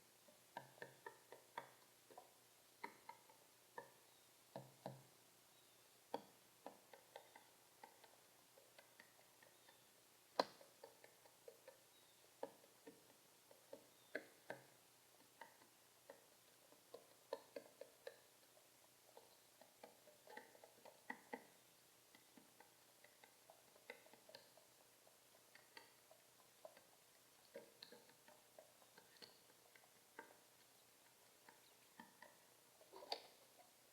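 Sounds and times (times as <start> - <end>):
pigeon ticks and taps: 0.0 - 5.2, 6.1 - 33.9.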